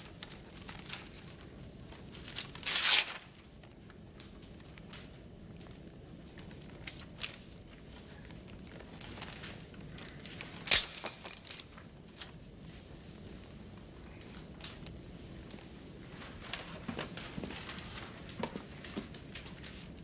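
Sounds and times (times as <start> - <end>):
paper pages rustling: 0.0 - 20.0
room background noise: 0.0 - 20.0.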